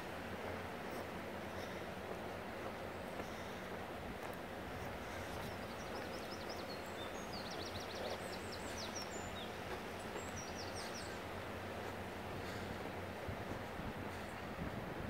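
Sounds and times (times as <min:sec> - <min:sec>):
outdoor background hiss: 0:00.0 - 0:15.0
songbird chirping: 0:00.4 - 0:13.1.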